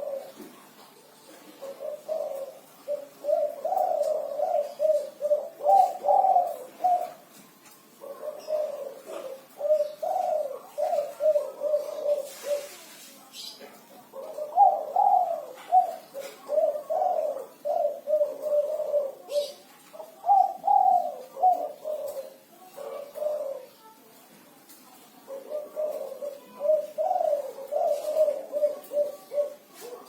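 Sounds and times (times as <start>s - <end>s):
dove cooing: 0.0s - 24.2s, 24.8s - 30.0s.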